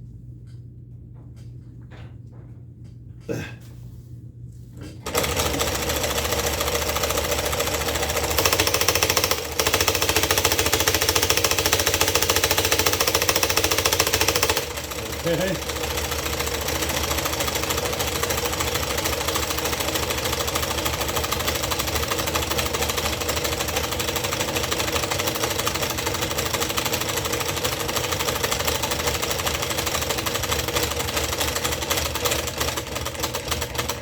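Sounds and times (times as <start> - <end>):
scroll saw running: 5.0 - 34.0.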